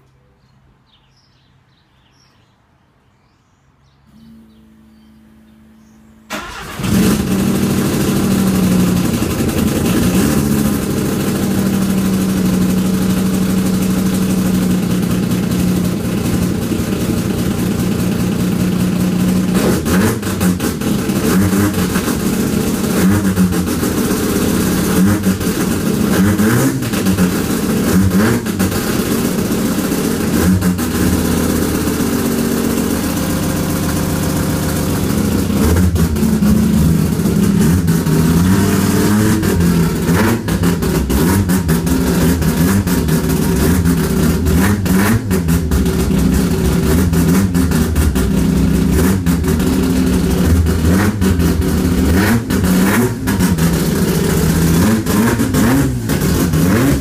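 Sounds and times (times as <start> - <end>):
rotary engine idling: 5.8 - 57.0
engine revving: 6.3 - 57.0.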